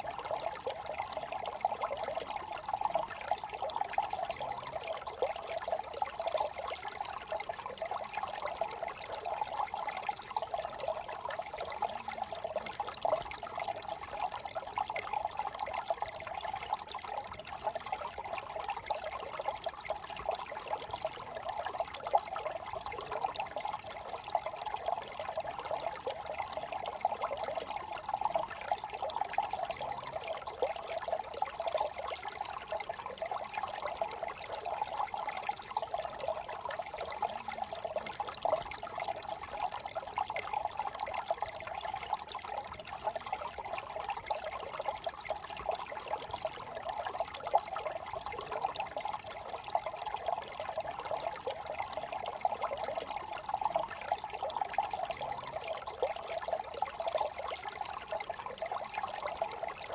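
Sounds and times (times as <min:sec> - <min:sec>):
brook babbling over stones: 0:00.0 - 0:59.9.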